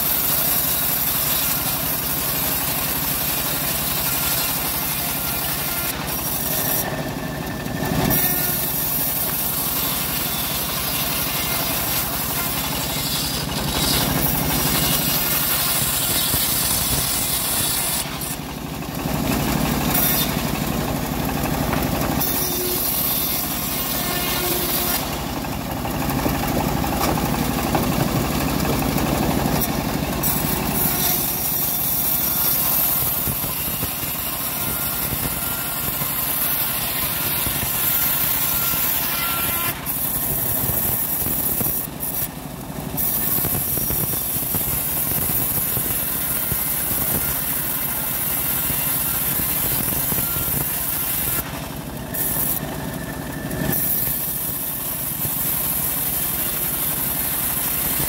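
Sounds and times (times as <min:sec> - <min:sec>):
bandsaw mill cutting wood: 0:00.0 - 0:58.0.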